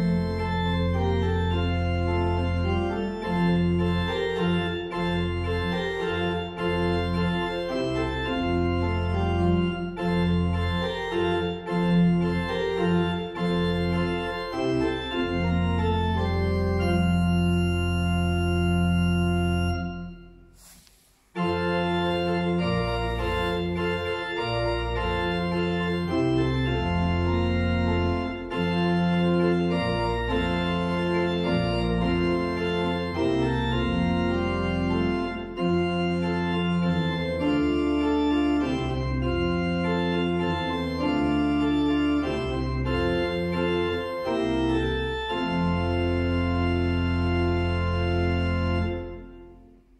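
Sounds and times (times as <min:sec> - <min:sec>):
pipe organ playing: 0:00.0 - 0:20.6, 0:21.3 - 0:49.9.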